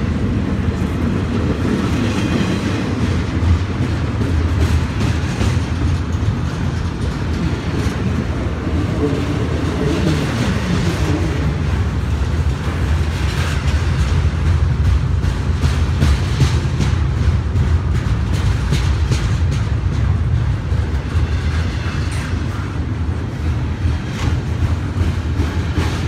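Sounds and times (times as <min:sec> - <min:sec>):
clicks and clunks of rail cars: 0:00.0 - 0:26.0
train wheels rumbling on rail: 0:00.0 - 0:26.0.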